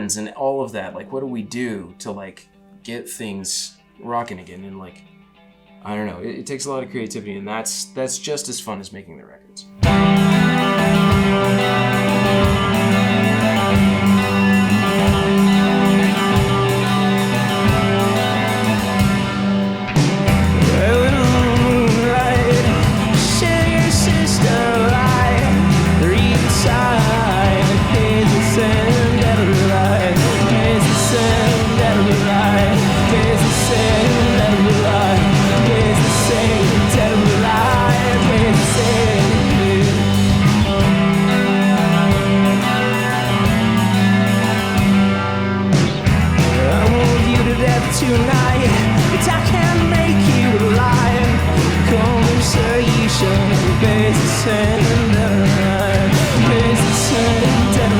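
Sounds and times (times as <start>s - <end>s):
live rock band playing: 9.8s - 57.9s.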